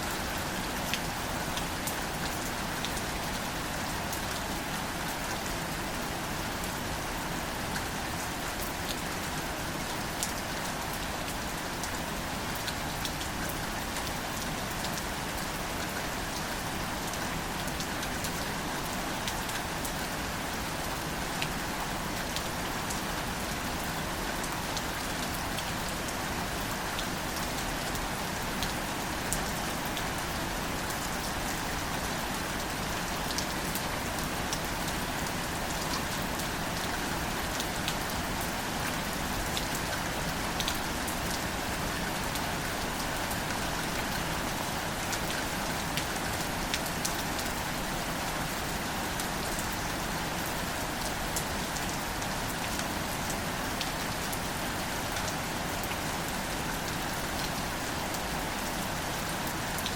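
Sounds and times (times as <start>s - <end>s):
light rain on leaves: 0.0s - 59.9s.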